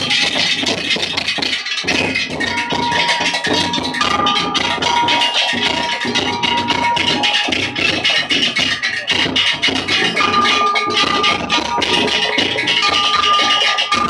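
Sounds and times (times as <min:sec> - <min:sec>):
music with percussive beat: 0:00.0 - 0:14.0.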